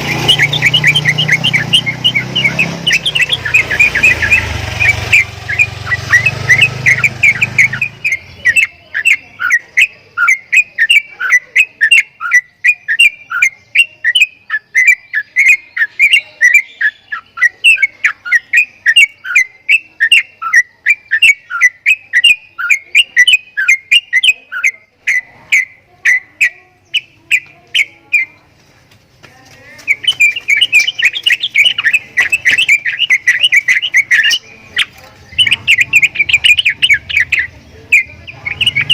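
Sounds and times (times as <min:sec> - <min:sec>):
myna whistled calls: 0:00.0 - 0:28.5, 0:29.7 - 0:38.9.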